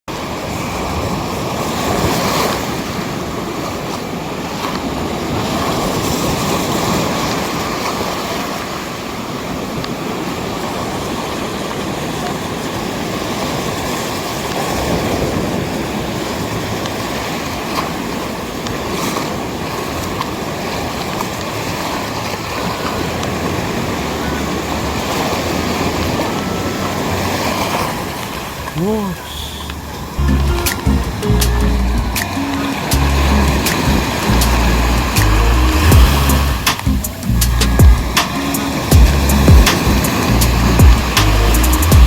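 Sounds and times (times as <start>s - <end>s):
waves washing up a beach: 0.1s - 42.0s.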